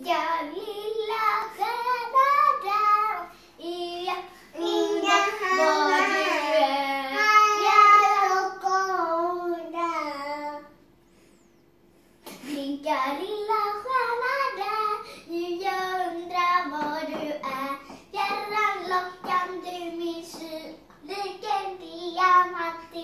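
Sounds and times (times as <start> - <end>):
child singing: 0.0 - 10.8, 12.4 - 23.0.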